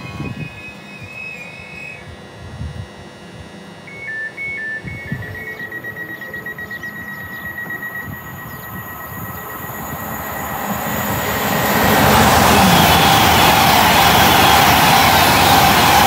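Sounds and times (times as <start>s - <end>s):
electric train electronic tones: 0.0s - 16.0s.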